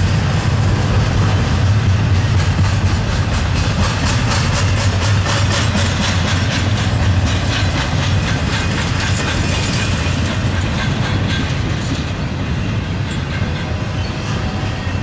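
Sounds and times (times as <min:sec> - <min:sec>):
freight train rumbling past: 0:00.0 - 0:15.0
wheels clicking over track: 0:00.9 - 0:13.8.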